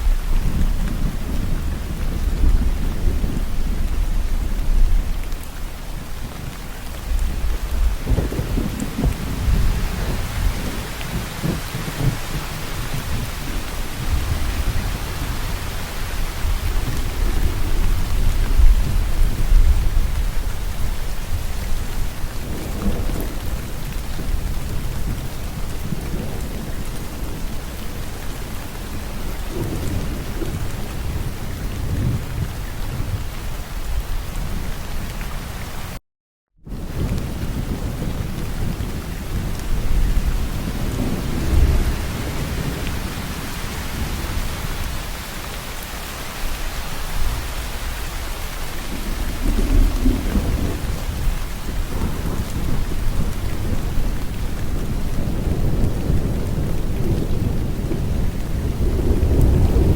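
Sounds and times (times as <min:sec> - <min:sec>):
low rolling thunder: 0:00.0 - 0:35.2, 0:36.7 - 0:59.9
steady rain falling: 0:00.0 - 0:36.0, 0:36.7 - 0:59.9.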